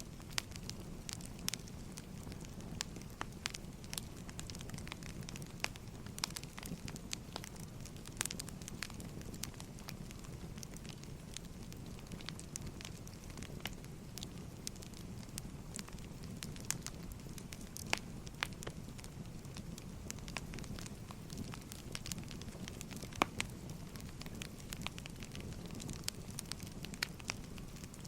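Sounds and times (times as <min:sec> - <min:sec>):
firewood crackling and popping: 0:00.0 - 0:28.0
low rumble of flames: 0:00.0 - 0:28.0.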